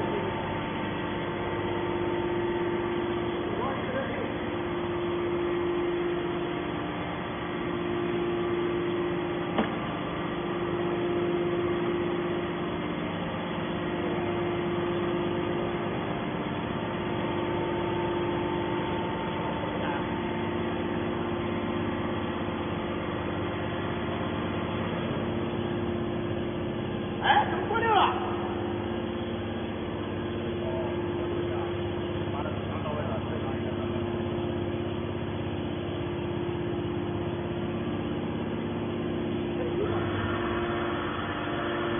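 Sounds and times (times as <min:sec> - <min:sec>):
hydraulic power unit humming: 0:00.0 - 0:41.9.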